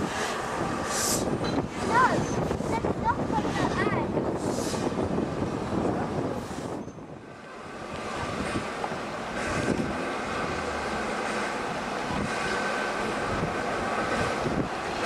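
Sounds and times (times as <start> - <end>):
steam locomotive rumbling: 0.0 - 15.0
wind hitting microphone: 0.0 - 15.0.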